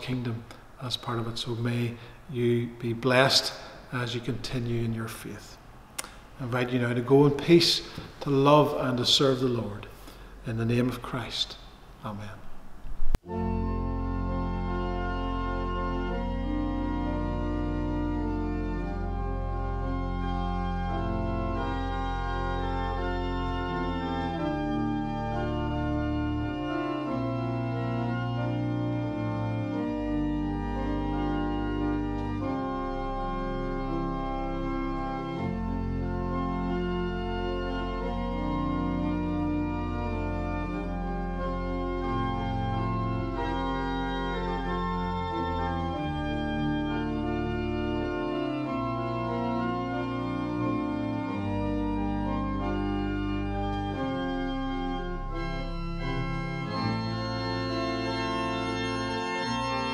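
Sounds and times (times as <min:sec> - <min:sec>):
organ playing sustained chords: 0:00.0 - 0:12.4, 0:13.2 - 0:59.9.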